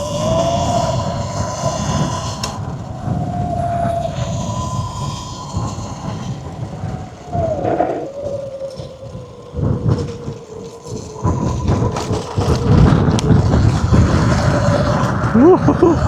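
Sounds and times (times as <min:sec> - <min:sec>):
distant motorbike engine drone: 0:00.0 - 0:16.0
wind buffeting microphone: 0:00.0 - 0:16.0.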